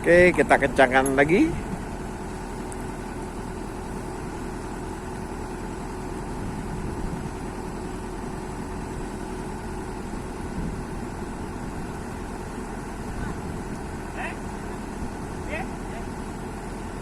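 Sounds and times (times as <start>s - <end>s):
excavator diesel engine idling: 0.0s - 17.0s.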